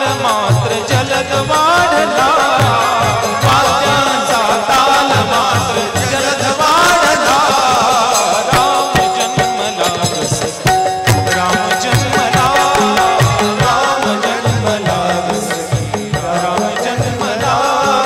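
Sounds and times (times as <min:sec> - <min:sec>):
hand-drum beats: 0:00.0 - 0:18.0.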